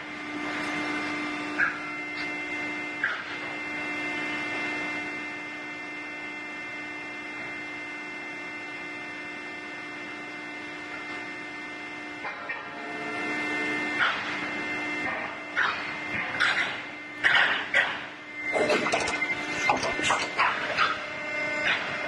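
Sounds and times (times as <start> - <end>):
hydraulic machine humming: 0.0 - 22.0.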